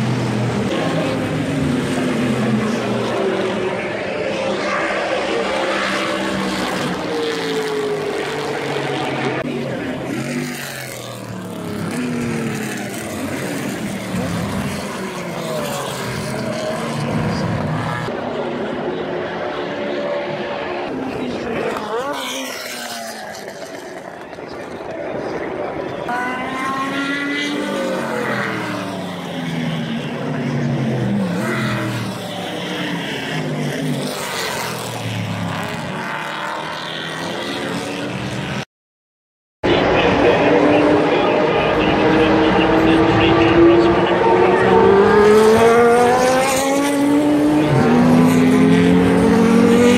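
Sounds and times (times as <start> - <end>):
race car engines passing: 0.0 - 38.6, 39.6 - 49.9.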